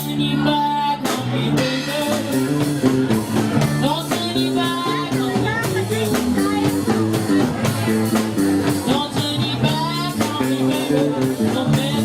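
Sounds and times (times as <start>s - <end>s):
bass line: 0.0s - 12.0s
drum kit: 0.0s - 12.0s
electric guitar: 0.0s - 12.0s.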